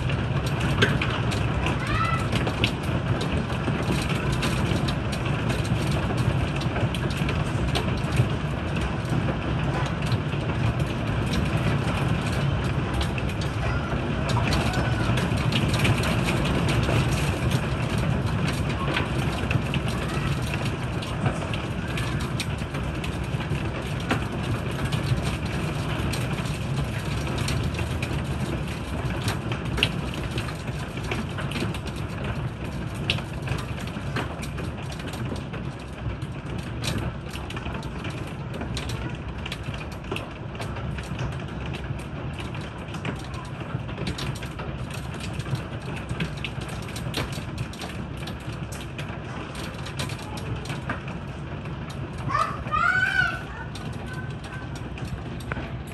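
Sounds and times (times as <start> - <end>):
hailstones tapping on wood: 0.0 - 55.9
heavy rain: 0.0 - 55.9.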